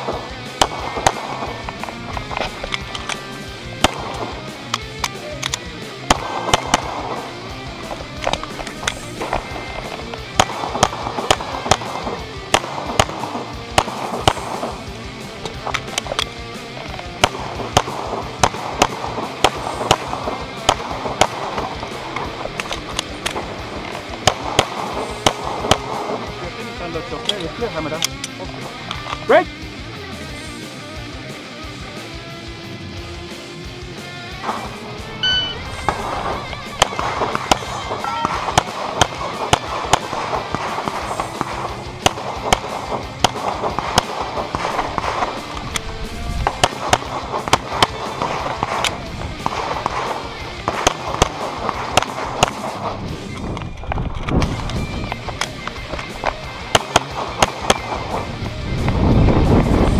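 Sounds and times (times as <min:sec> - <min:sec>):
pistol shots: 0:00.0 - 0:29.3, 0:34.4 - 0:53.5, 0:54.4 - 0:58.3
background music with beat: 0:00.0 - 0:53.7, 0:54.3 - 0:59.9.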